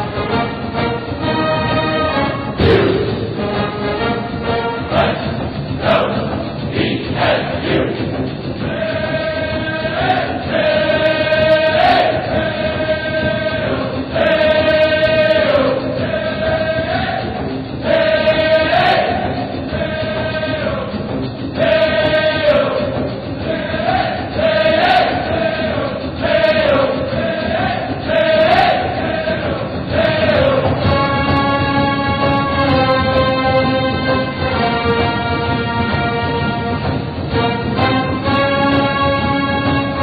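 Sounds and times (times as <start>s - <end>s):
choir singing long notes: 0.0s - 40.0s.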